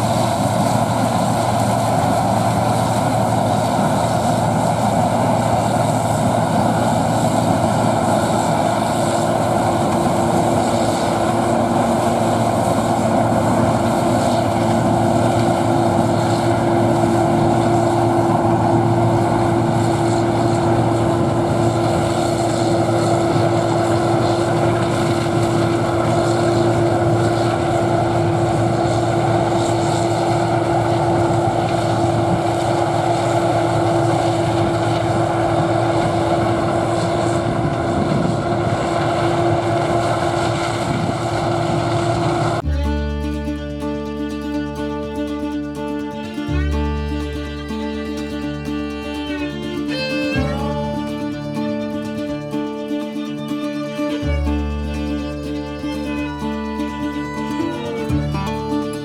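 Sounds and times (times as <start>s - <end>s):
combine harvester engine hum: 0.0s - 59.0s
steady machine whine: 0.0s - 59.0s
threshing machinery noise: 0.0s - 59.0s.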